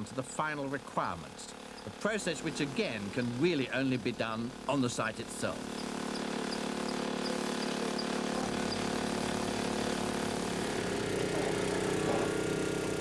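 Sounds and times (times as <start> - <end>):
machine engine droning: 0.6 - 13.0.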